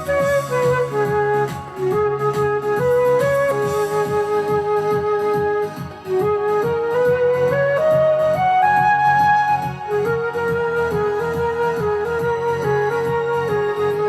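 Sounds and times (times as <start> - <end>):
flute playing a melody: 0.0 - 14.0
karaoke backing track: 0.0 - 14.0.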